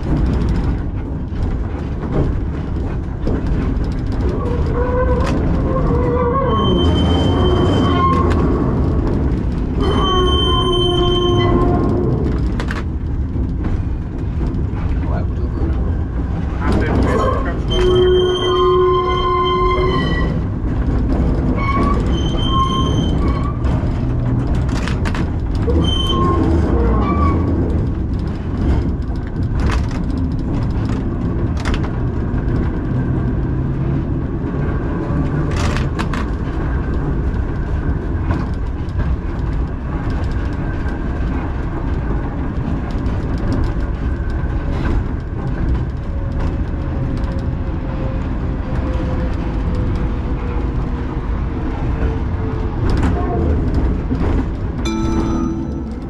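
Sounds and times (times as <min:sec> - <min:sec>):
tram rumbling on rails: 0:00.0 - 0:56.0
tram wheels clicking and knocking: 0:00.0 - 0:56.0.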